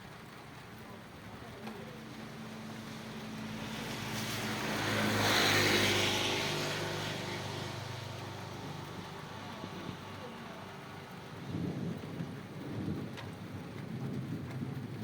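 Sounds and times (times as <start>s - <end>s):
steady rain: 0.0s - 15.0s
vehicle passing on wet road: 0.0s - 15.0s.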